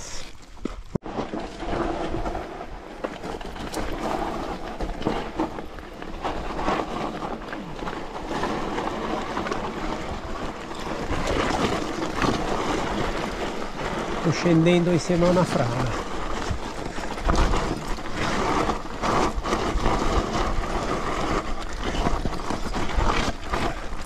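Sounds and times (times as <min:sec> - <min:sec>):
tyres crunching over stones: 0:00.0 - 0:24.0
bike knocks and rattles: 0:00.6 - 0:24.0.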